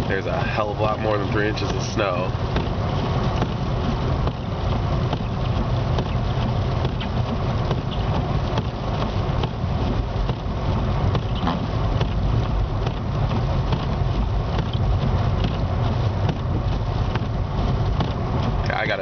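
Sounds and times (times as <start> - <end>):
car rumble from inside cabin: 0.0 - 19.0.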